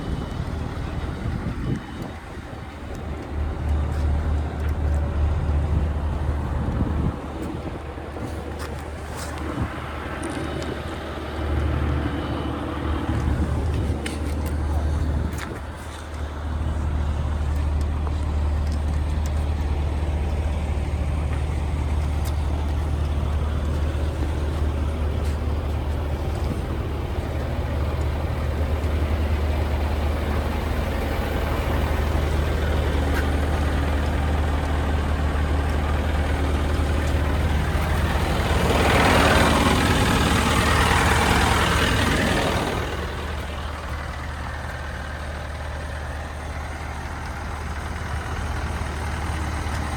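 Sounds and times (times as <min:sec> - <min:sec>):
diesel truck idling: 0:00.0 - 0:49.9.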